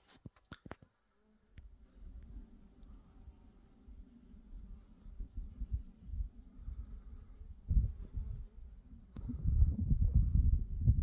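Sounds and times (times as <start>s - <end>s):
uneven low rumble: 2.0s - 11.0s.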